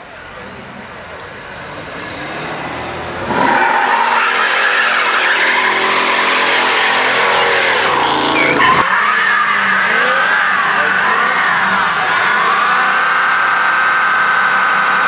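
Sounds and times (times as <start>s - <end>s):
tyres squealing on asphalt: 0.0s - 15.0s
car engine revving hard: 1.9s - 15.0s.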